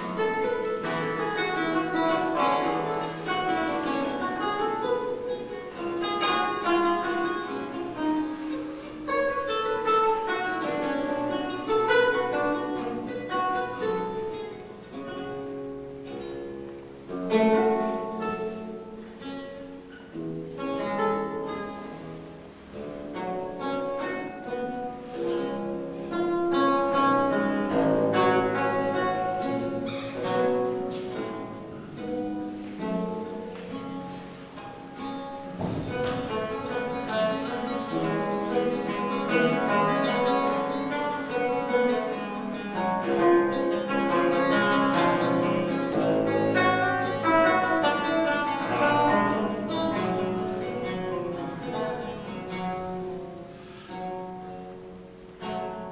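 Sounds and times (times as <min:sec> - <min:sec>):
plucked theorbo: 0:00.0 - 0:55.9.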